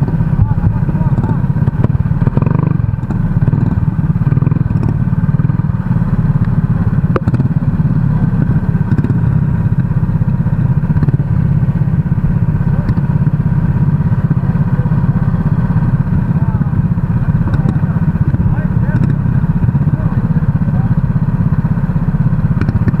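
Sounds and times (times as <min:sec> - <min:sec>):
kart engine running: 0:00.0 - 0:23.0.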